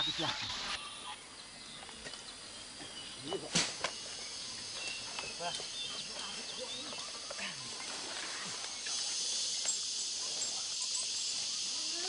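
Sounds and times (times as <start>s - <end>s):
faint scattered calls: 0.0s - 12.0s
night insects chirring: 0.0s - 12.0s.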